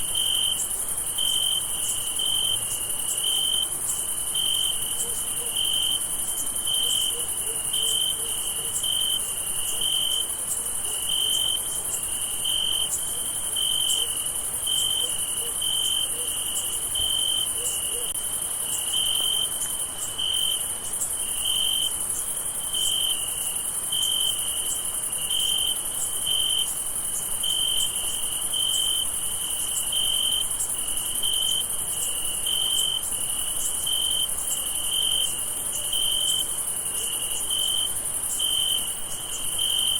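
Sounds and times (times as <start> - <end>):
high-pitched cricket hum: 0.0 - 39.9.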